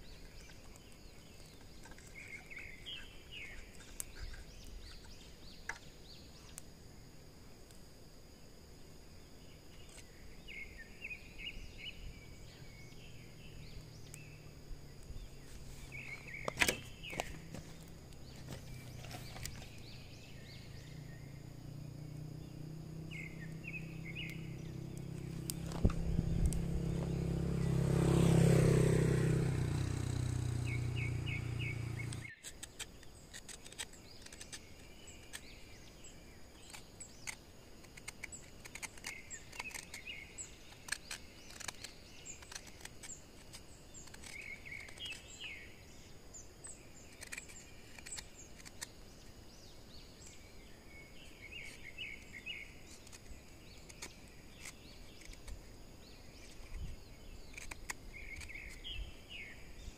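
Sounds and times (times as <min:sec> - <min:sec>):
birds chirping in trills: 0:00.0 - 0:07.1, 0:08.8 - 0:59.9.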